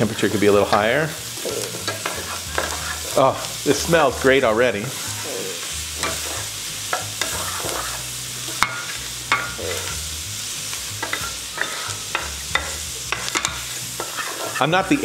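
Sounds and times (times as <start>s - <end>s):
vegetables sizzling in a pan: 0.0s - 15.0s
spoon scraping against pan: 0.2s - 3.6s, 4.9s - 10.1s, 10.9s - 15.0s.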